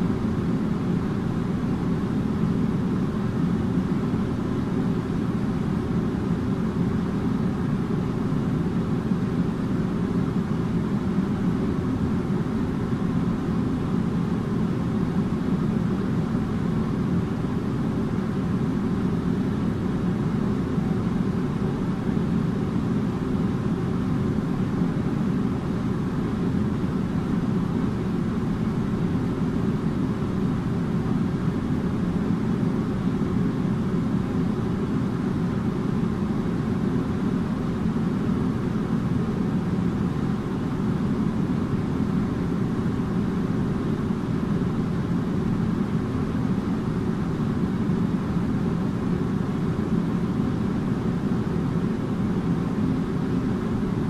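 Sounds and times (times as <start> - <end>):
air conditioner rushing air: 0.0 - 54.0
faint hum: 0.0 - 54.0.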